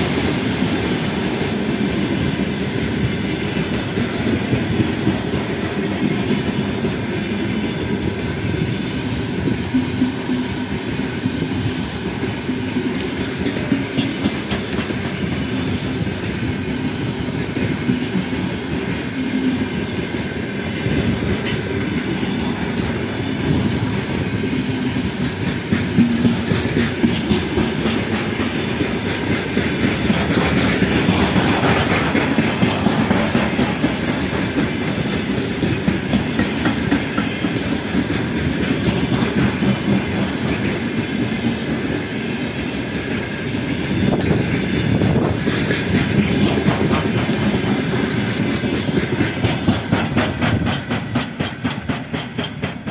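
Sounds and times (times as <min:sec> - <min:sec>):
train rolling rumble: 0:00.0 - 0:52.9
train wheels clacking: 0:00.0 - 0:52.9.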